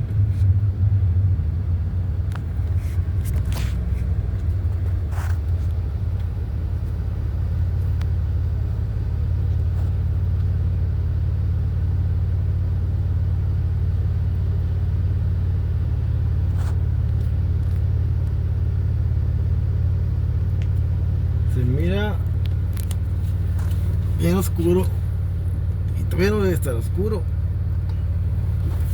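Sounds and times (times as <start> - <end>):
car engine and road noise: 0.0 - 28.9.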